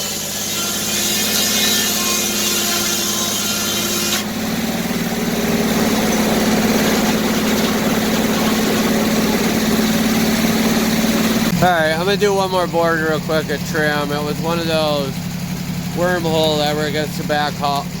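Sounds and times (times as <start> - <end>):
saw blade cutting whine: 0.0 - 18.0
sawmill engine and spinning blade hum: 0.0 - 18.0.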